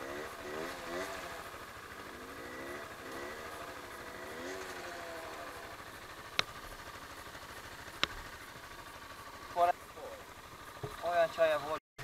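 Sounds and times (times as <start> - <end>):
vehicle engine revving: 0.0 - 11.6.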